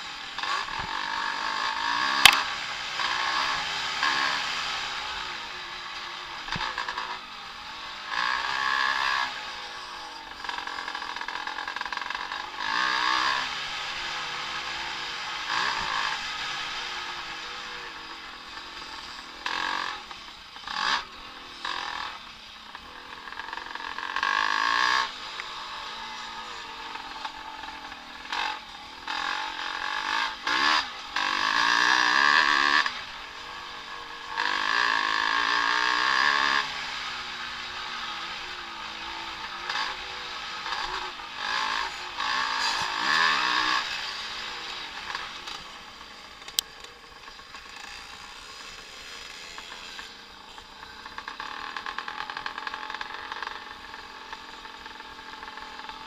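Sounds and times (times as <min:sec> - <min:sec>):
motocross bikes racing past: 0:00.0 - 0:56.0.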